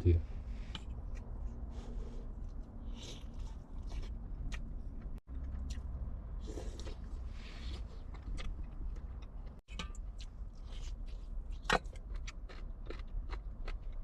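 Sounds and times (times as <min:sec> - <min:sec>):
low steady rumble: 0:00.0 - 0:14.0
chewing: 0:02.4 - 0:14.0.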